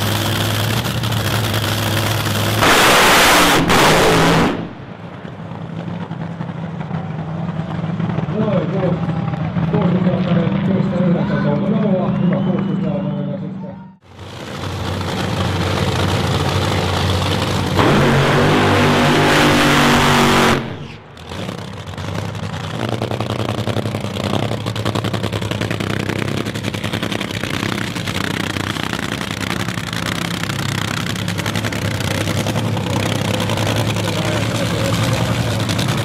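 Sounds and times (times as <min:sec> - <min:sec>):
dragster engine lumpy idle: 0:00.0 - 0:02.6, 0:05.0 - 0:11.6, 0:14.1 - 0:19.0, 0:20.8 - 0:36.0
dragster engine at full throttle: 0:00.0 - 0:36.0.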